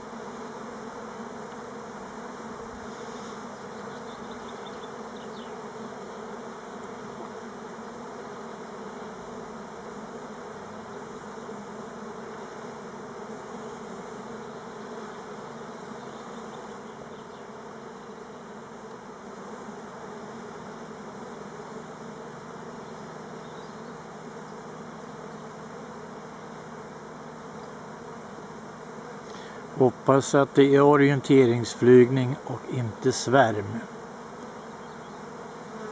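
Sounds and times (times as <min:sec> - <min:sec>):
bees buzzing: 0:00.0 - 0:35.9.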